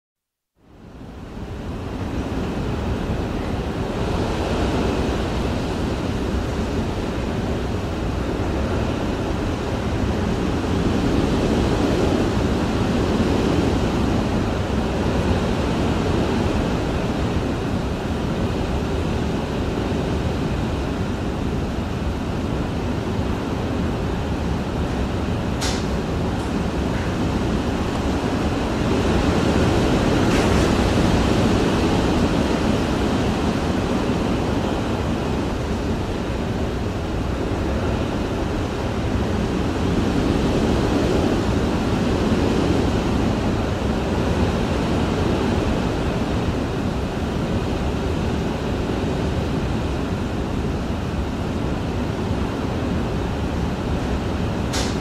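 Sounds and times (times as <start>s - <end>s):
hurricane wind gusting: 0.7s - 55.0s.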